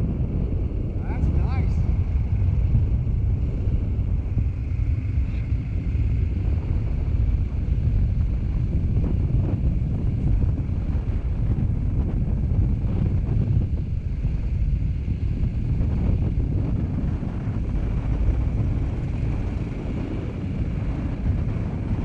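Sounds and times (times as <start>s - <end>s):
wind noise on microphone: 0.0s - 22.0s
motorcycle engine running: 1.8s - 22.0s.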